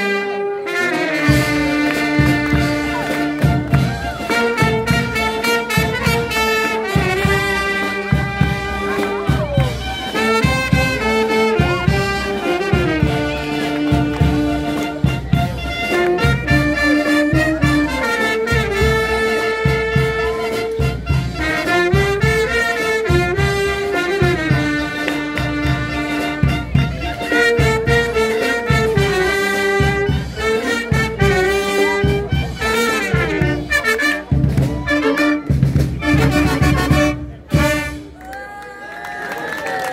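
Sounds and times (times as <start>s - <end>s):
brass band playing: 0.0s - 38.4s.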